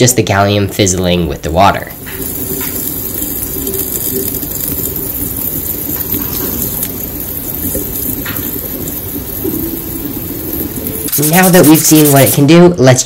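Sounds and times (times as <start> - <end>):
fizzing hiss: 0.0 - 12.8.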